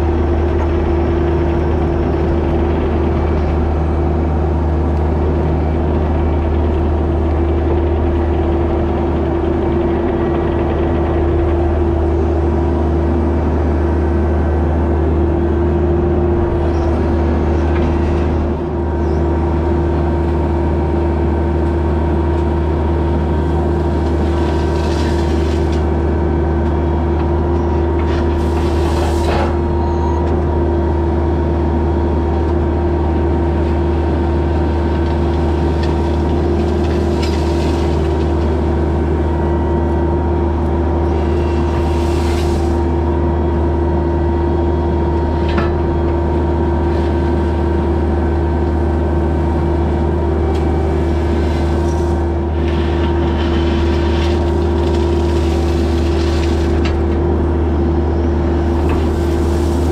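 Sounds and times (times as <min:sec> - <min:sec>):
heavy equipment engine droning: 0:00.0 - 0:59.9.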